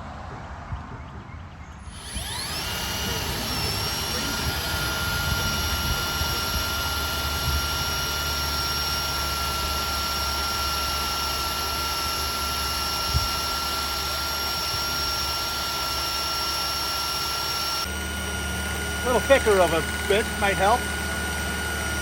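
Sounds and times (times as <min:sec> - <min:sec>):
electric drill whining: 0:01.8 - 0:22.0.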